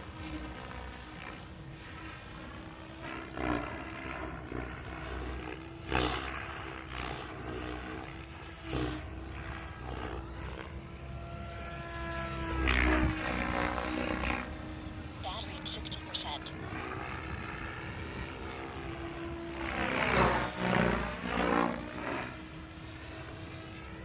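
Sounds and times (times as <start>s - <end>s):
helicopter motor and rotor whine: 0.0s - 24.0s.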